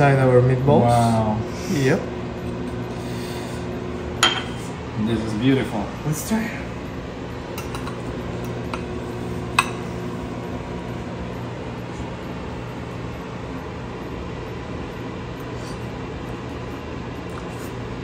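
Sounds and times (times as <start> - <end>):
low kitchen hum: 0.0 - 18.0.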